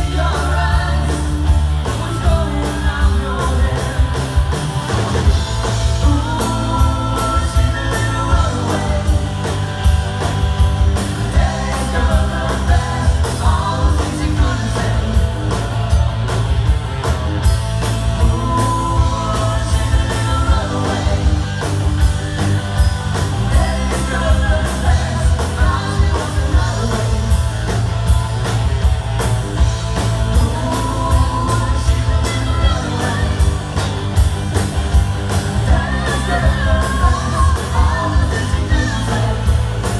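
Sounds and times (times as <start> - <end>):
live rock band with singer: 0.0 - 39.9.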